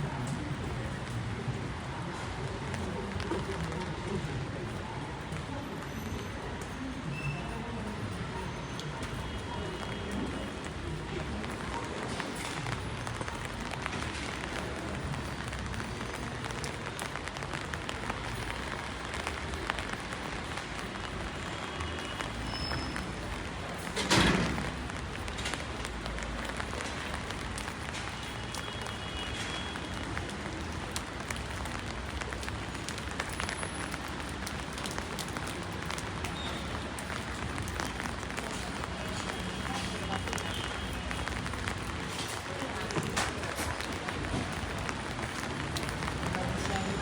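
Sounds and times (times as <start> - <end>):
raindrops ticking: 0.0 - 47.0.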